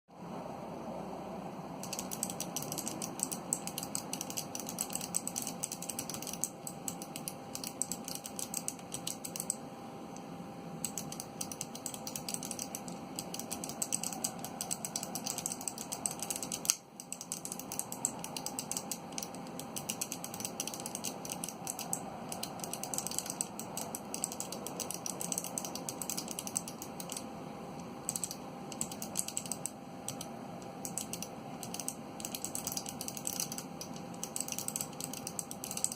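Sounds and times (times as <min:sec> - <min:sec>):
fast typing on clicky keyboard: 0:01.8 - 0:09.6, 0:10.8 - 0:27.3, 0:28.0 - 0:35.9.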